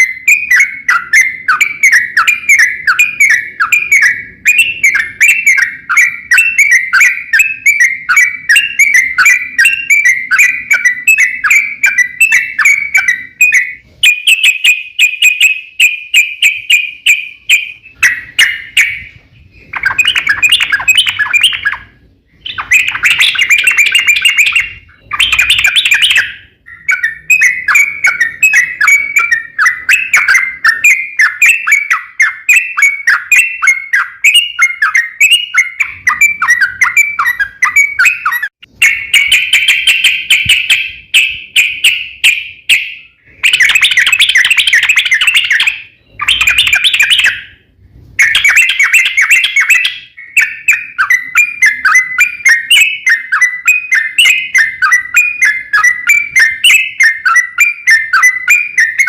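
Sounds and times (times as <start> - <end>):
bulbul chattering song: 0.0 - 59.0.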